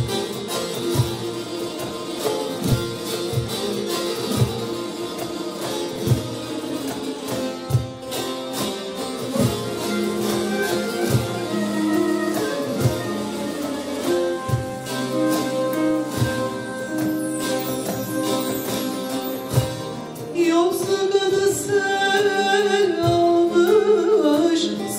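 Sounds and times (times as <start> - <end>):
folk music ensemble: 0.0 - 24.9
plucked saz strings: 0.0 - 24.9.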